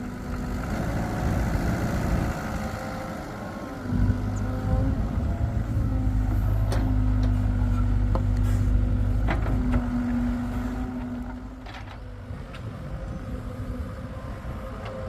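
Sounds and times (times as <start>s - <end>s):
excavator engine droning: 0.0s - 15.0s.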